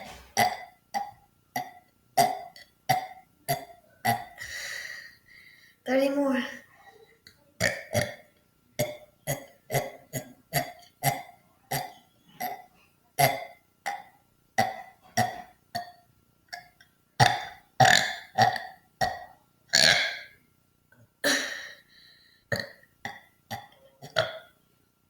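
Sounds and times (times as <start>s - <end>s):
boy burping: 0.0s - 5.1s, 7.6s - 20.4s, 21.2s - 21.8s, 22.5s - 24.5s.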